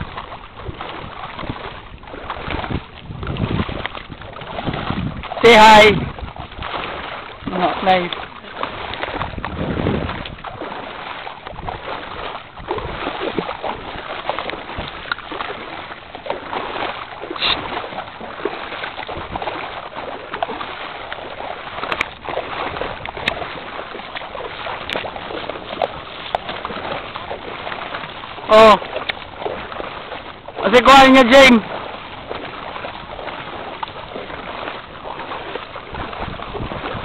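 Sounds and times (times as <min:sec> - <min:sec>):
feet wading in shallow water: 0:00.0 - 0:37.0.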